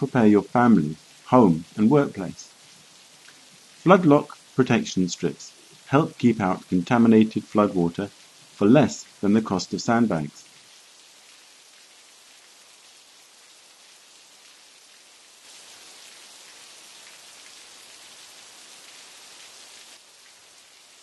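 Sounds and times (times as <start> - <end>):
faint rain-like hiss: 0.0 - 21.0.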